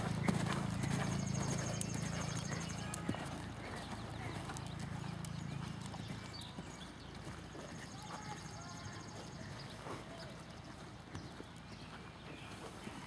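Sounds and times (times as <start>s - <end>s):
horse hoofbeats trotting on dirt: 0.0s - 13.0s.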